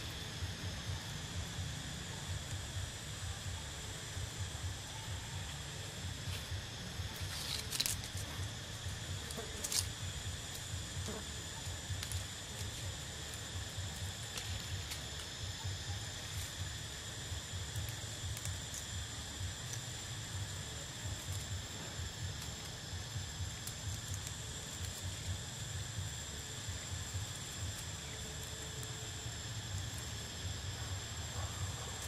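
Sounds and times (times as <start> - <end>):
high-pitched insect drone: 0.0 - 32.0
low fluttering rumble: 0.0 - 32.0.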